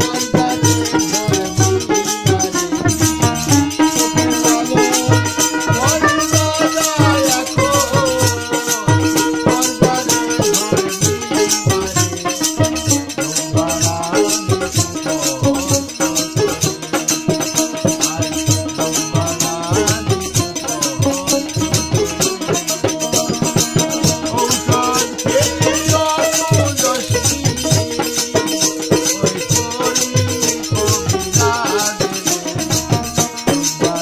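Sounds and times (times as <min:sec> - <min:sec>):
drum beat: 0:00.0 - 0:34.0.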